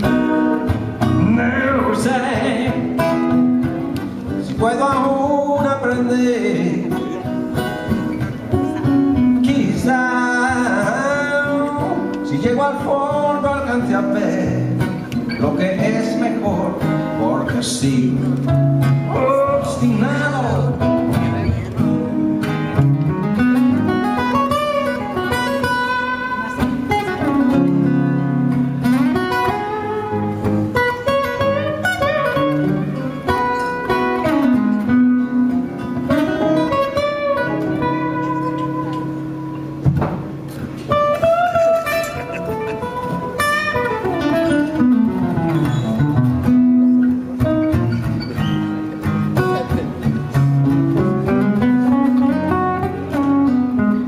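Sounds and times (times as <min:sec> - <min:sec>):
acoustic guitars playing: 0:00.0 - 0:54.0.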